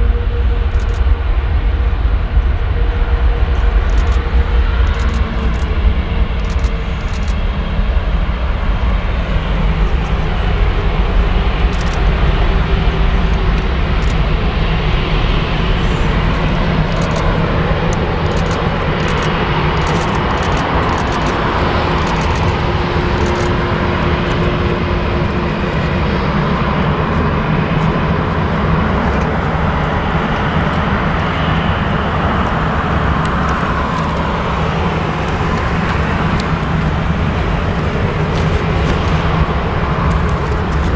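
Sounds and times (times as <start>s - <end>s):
jet airliner taxiing: 0.0s - 40.9s.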